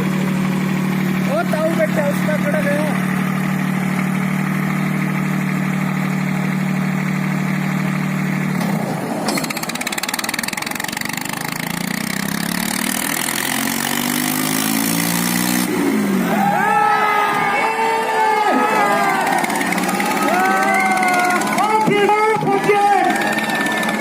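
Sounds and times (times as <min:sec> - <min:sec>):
tractor diesel engines labouring: 0:00.0 - 0:24.0.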